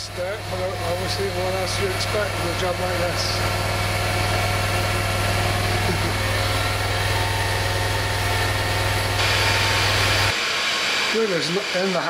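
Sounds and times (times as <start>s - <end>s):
machinery humming with fast beat: 0.0s - 12.0s.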